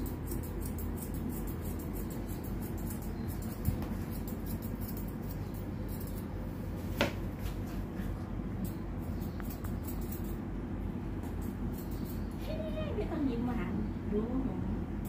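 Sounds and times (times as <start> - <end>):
scissors snipping fur: 0.0 - 10.4, 11.1 - 13.1
steady low hum: 0.0 - 15.0.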